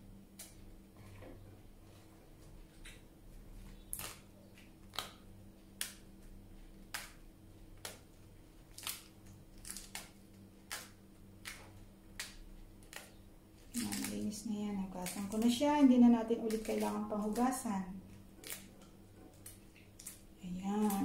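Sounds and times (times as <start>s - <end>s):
lettuce leaves tearing: 2.8s - 21.0s.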